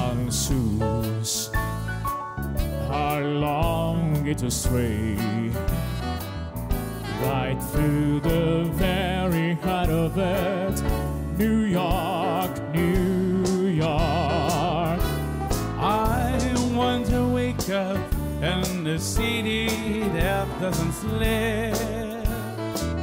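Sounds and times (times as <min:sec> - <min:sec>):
bass line: 0:00.0 - 0:23.0.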